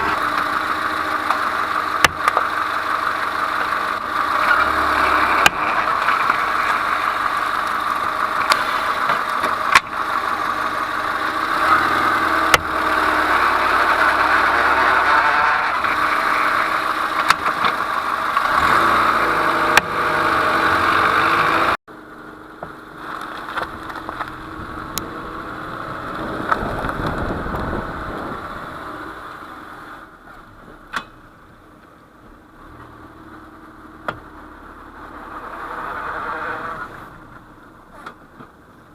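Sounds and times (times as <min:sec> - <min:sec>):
car running noise: 0:00.0 - 0:38.9.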